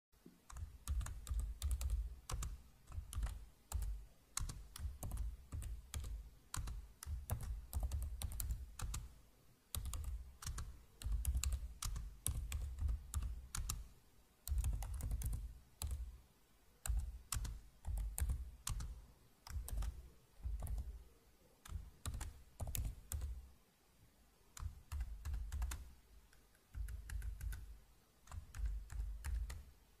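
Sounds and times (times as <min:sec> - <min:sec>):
typing on computer keyboard: 0:00.4 - 0:16.1, 0:16.8 - 0:21.0, 0:21.6 - 0:23.4, 0:24.6 - 0:29.7.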